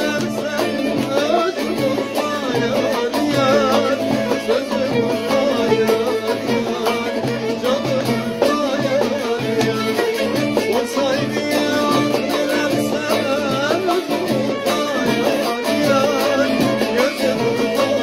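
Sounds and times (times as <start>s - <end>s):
long-necked lute strummed fast: 0.0s - 18.0s
man singing: 0.0s - 18.0s.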